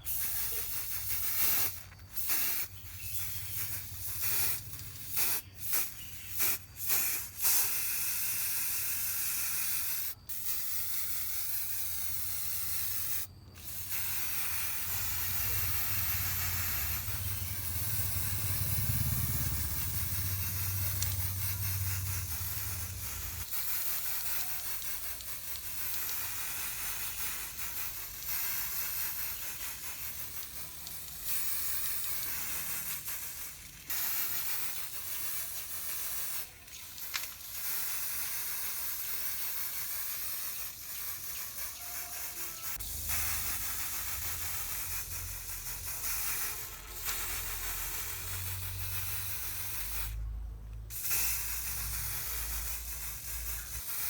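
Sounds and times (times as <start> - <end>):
hissing spray: 0.0 - 54.0.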